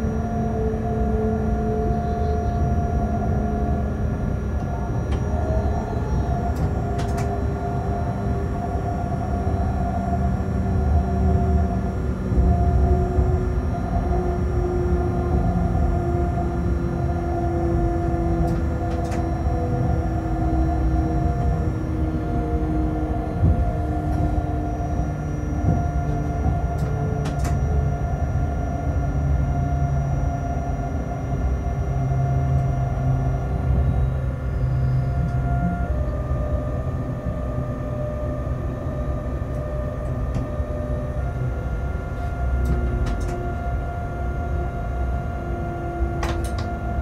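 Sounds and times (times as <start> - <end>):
droning hum shifting pitch: 0.0 - 47.0
train cab rumble: 0.0 - 47.0.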